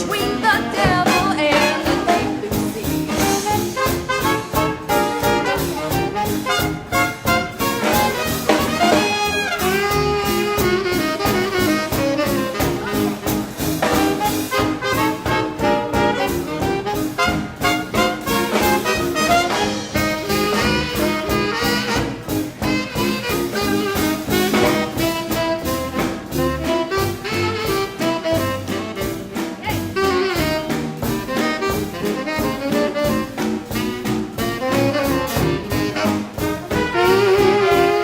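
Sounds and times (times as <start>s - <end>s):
saxophone: 0.0s - 38.0s
swing band playing: 0.0s - 38.0s.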